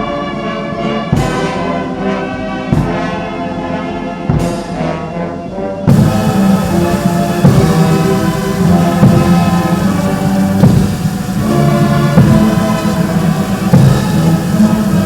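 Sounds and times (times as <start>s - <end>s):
brass band playing chords: 0.0s - 15.0s.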